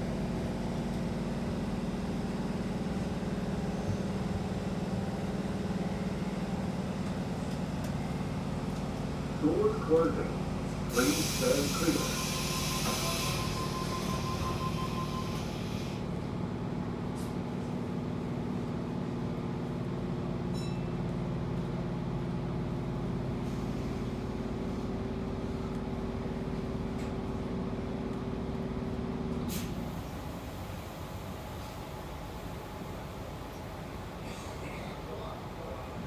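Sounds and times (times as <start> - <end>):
train hum and rumble: 0.0 - 36.0.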